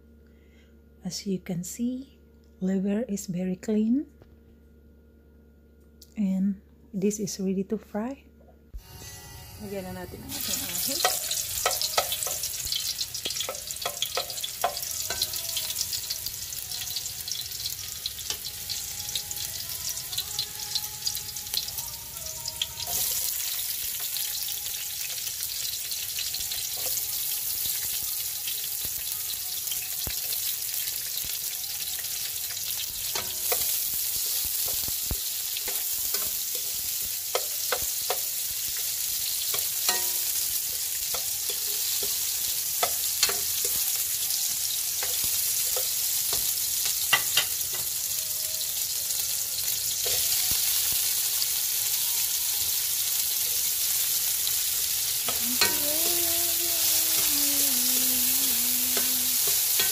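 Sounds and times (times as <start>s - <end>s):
garlic sizzling in oil: 8.8s - 59.9s.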